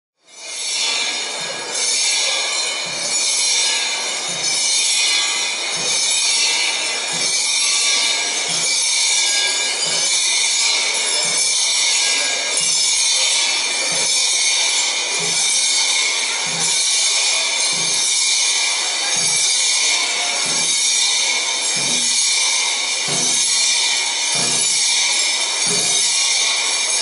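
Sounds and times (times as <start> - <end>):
brass hand bells jingling: 0.3 - 27.0.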